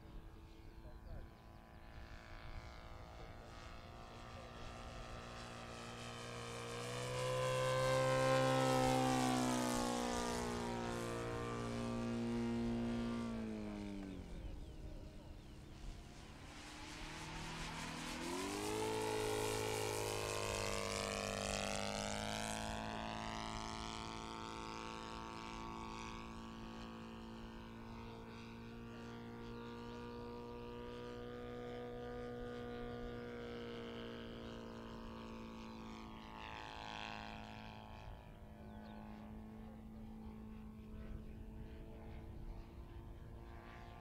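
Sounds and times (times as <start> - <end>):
model plane engine in flight: 0.0 - 44.0.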